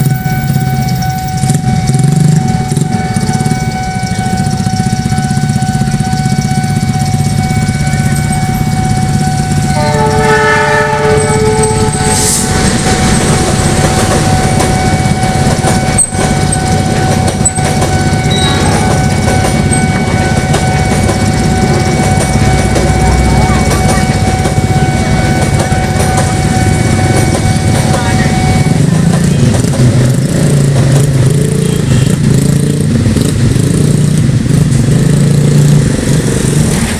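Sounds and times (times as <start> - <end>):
engine running: 0.0 - 36.9
train rumble and wheel clatter: 0.0 - 36.9
train horn blast: 0.4 - 33.8.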